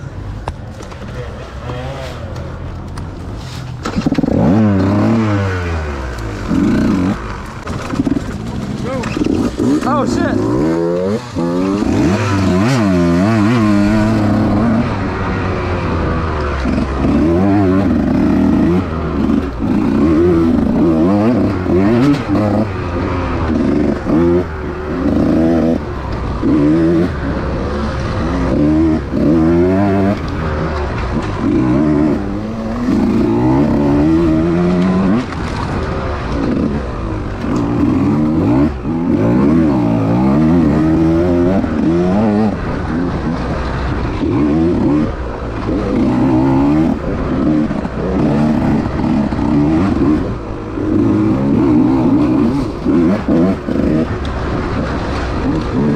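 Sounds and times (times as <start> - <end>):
dirt bike engine revving: 3.8 - 55.9.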